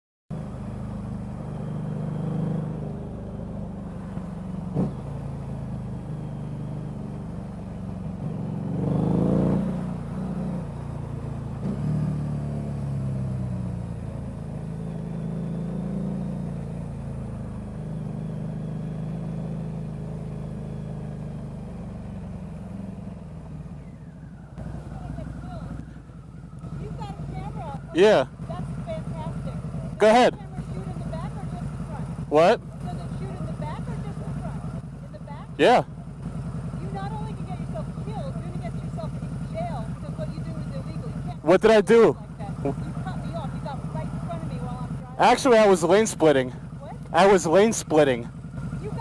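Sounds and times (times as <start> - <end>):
motorcycle engine running: 0.3 - 49.0.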